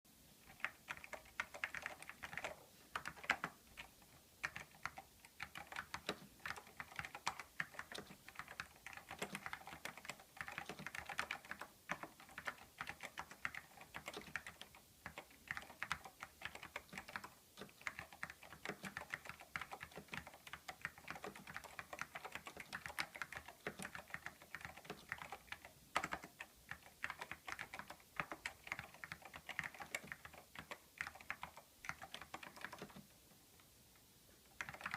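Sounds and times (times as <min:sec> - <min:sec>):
keyboard typing clicks: 0:00.4 - 0:33.1, 0:34.5 - 0:34.9.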